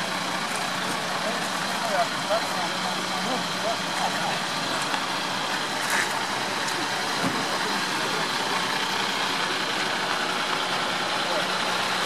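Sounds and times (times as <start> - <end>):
fire engine idling: 0.0 - 12.0
faint voices: 0.6 - 12.0.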